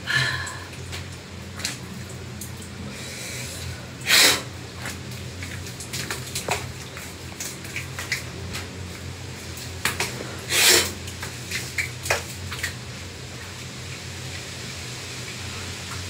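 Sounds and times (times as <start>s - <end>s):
shower water splashing: 0.0s - 16.0s
steady low hum: 0.0s - 16.0s.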